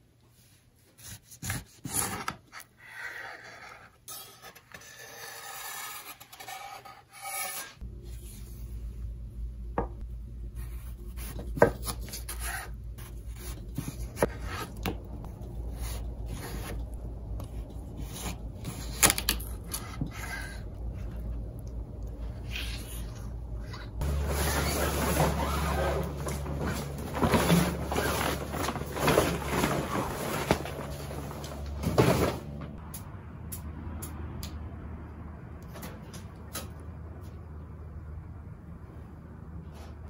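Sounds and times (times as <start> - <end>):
low steady hum: 7.8 - 40.0.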